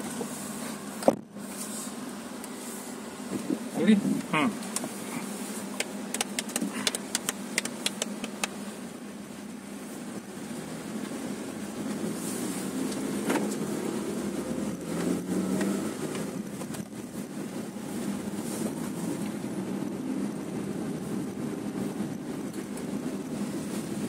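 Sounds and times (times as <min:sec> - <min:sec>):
car engine and tyre hum: 0:00.0 - 0:24.0.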